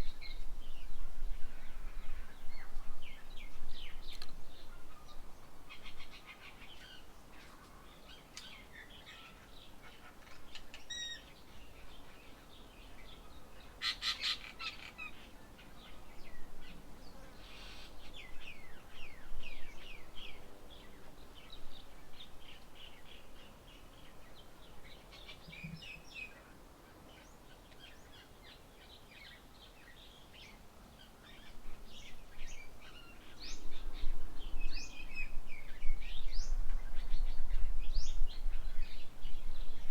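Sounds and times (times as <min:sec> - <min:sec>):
birds chirping and calling: 0:00.0 - 0:26.4, 0:27.1 - 0:39.9.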